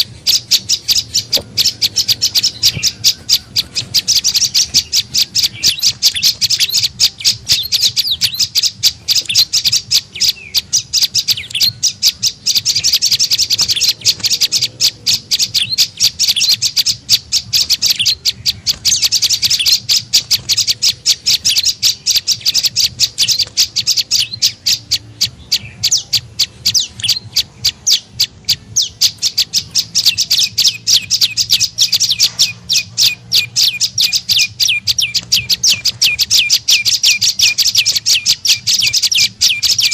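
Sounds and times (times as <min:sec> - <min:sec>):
bird chirping high and fast: 0:00.0 - 0:39.9.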